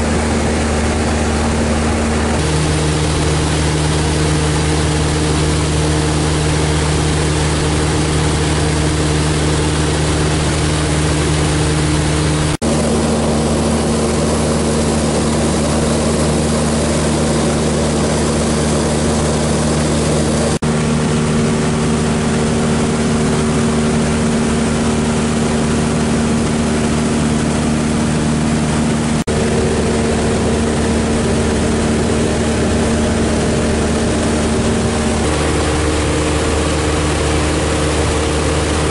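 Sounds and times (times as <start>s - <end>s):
propeller aircraft engine drone: 0.0s - 38.9s
rushing air: 0.0s - 38.9s.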